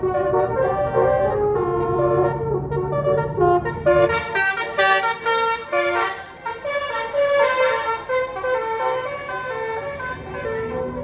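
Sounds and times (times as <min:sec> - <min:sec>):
musical bus air horn tune: 0:00.0 - 0:11.0.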